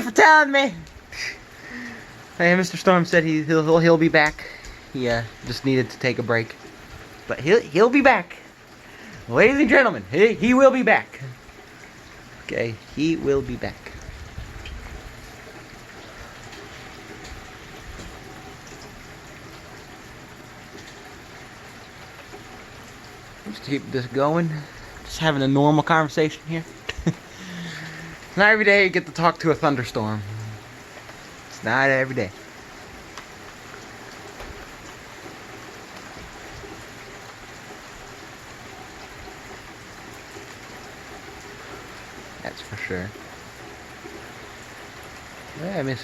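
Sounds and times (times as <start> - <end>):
raindrops ticking: 0.0 - 46.0
steady rain hiss: 0.0 - 46.0.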